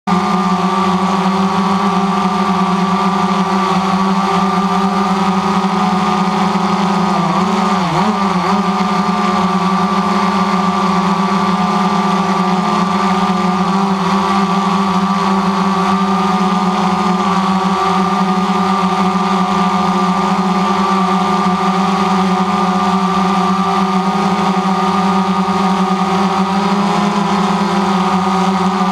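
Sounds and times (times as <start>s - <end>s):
drone propellers buzzing: 0.1s - 28.9s.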